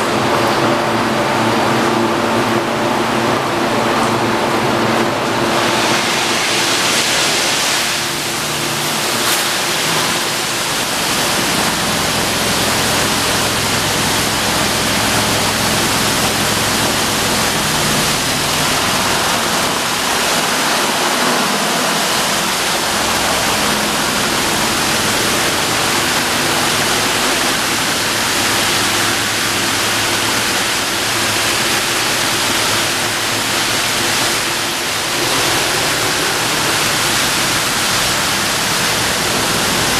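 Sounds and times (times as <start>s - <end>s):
water spray and spinning brushes: 3.2s - 39.9s.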